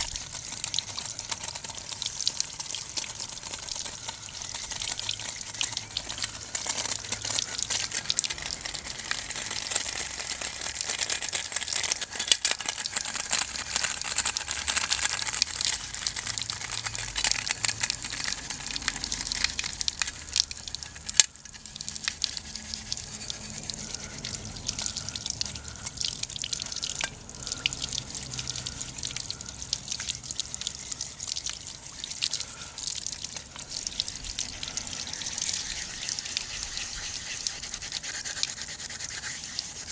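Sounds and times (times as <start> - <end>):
broth simmering and bubbling: 0.0 - 39.9.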